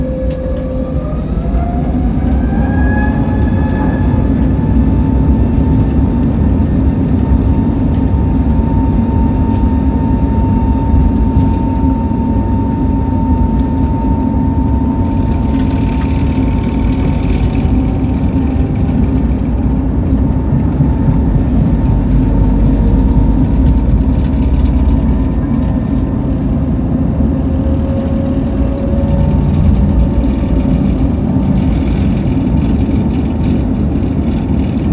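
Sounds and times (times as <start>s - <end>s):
jet engines spooling up: 0.0s - 34.9s.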